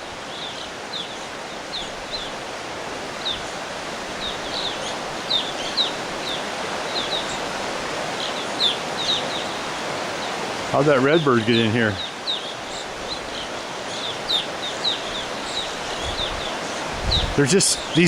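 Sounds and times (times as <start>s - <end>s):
flock of birds chirping: 0.0s - 18.0s.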